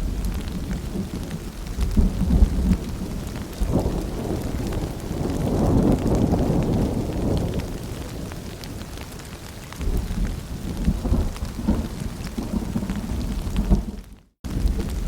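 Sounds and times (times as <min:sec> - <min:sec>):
distant thunder rumbling: 0:00.0 - 0:15.0
rain pattering and dripping: 0:00.0 - 0:15.0.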